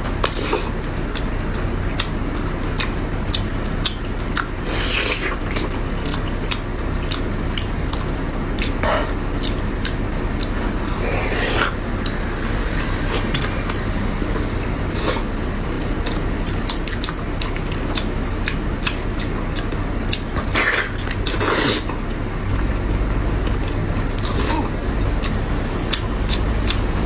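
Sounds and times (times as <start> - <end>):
close chewing with wet clicks: 0.0 - 27.0
low hum: 0.0 - 27.0.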